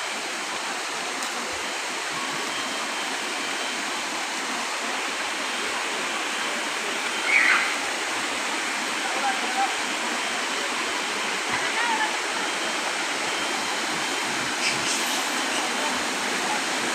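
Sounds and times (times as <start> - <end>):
waterfall rushing into pool: 0.0 - 16.9.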